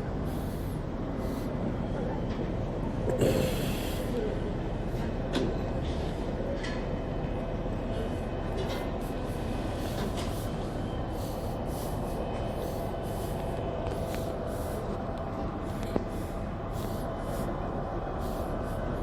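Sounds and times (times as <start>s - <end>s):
faint constant hum: 0.0s - 19.0s
low mechanical rumble: 0.0s - 19.0s.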